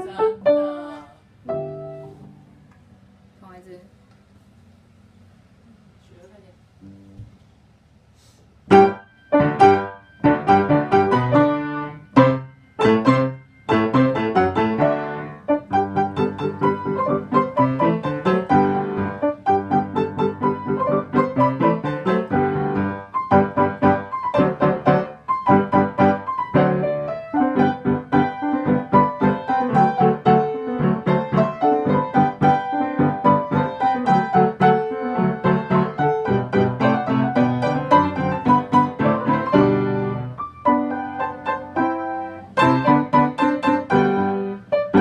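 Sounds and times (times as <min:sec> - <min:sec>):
piano playing quick notes: 0:08.7 - 0:45.0.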